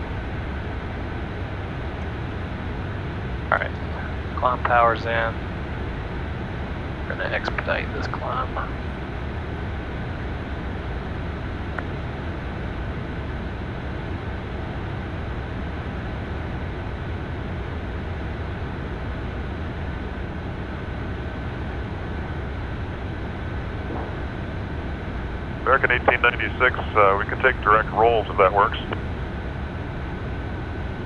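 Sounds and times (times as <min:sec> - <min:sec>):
jet engine and airflow rush: 0:00.0 - 0:14.0, 0:18.3 - 0:31.0
thin steady whine: 0:00.0 - 0:31.0.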